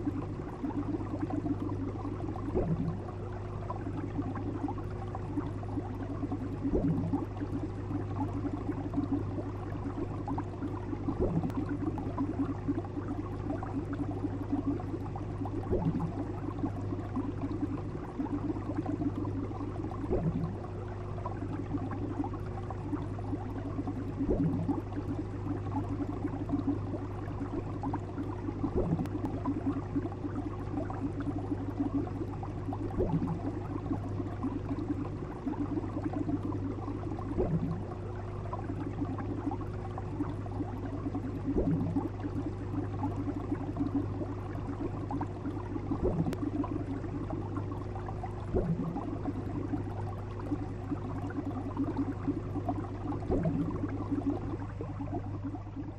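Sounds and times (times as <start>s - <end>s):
aquarium filter humming: 0.0s - 55.9s
water bubbling and trickling: 0.0s - 55.9s
water gurgling: 0.0s - 55.9s.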